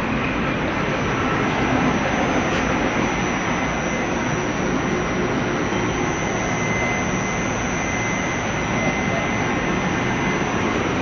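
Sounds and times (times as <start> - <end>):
heavy machinery running: 0.0 - 11.0
faint high whine: 0.1 - 11.0.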